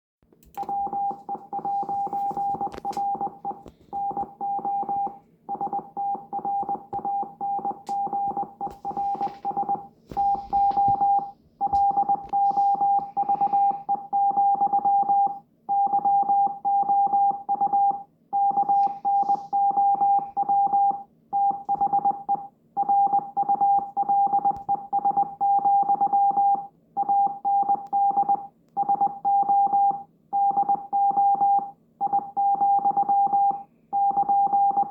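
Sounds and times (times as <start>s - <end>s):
morse code beeps: 0.6s - 34.9s.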